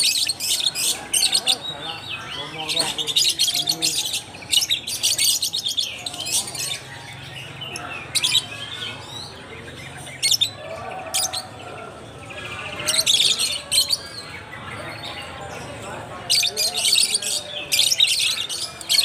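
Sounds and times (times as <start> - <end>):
lovebirds chirping: 0.0 - 19.0.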